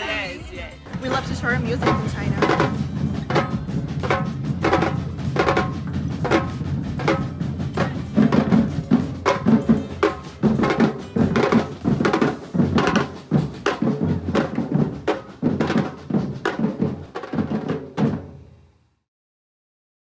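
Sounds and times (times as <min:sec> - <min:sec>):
bass drums beating: 0:00.0 - 0:17.7.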